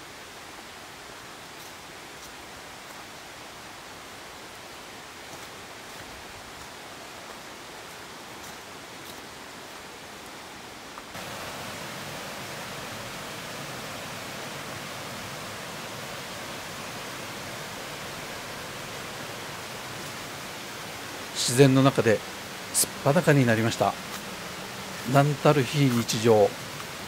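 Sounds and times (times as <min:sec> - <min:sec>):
mountain stream rushing: 0:00.0 - 0:27.0.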